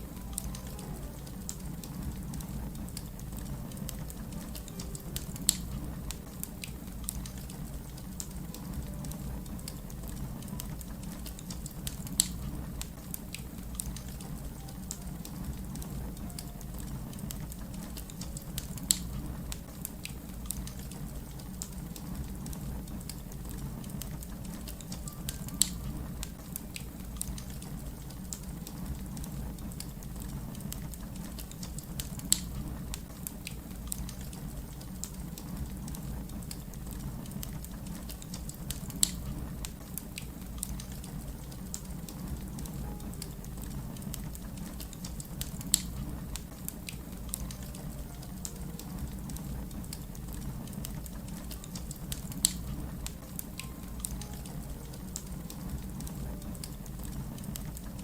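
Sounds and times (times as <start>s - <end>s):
fire crackling: 0.0s - 58.0s
fire popping: 0.0s - 58.0s
wood fire rumbling: 0.0s - 58.0s.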